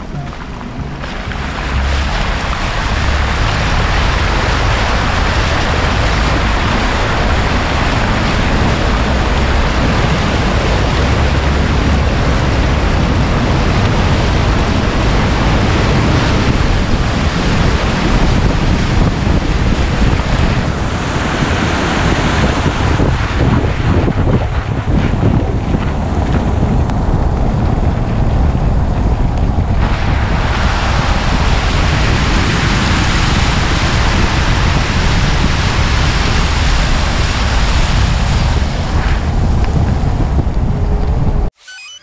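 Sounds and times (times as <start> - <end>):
tyre ploughing through floodwater: 0.0 - 41.2
wind buffeting microphone: 0.0 - 41.5.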